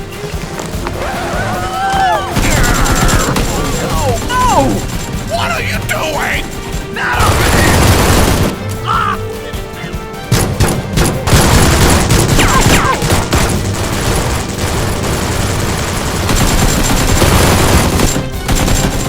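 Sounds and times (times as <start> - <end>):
background music: 0.0 - 19.0
rapid gunfire: 2.3 - 8.9, 10.3 - 19.0.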